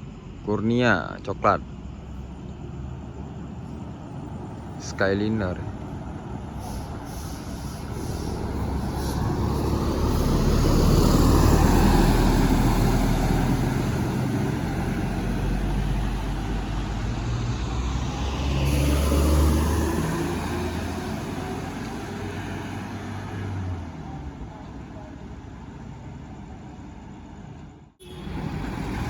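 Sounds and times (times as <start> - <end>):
bus engine and tyre noise: 0.0 - 29.0
heavy vehicles passing: 0.0 - 29.0.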